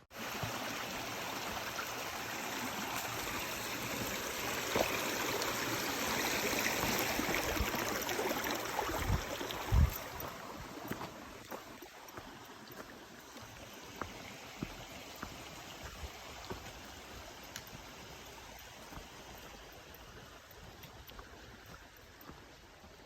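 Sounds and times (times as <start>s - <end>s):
creek rushing over rocks: 0.0s - 23.0s.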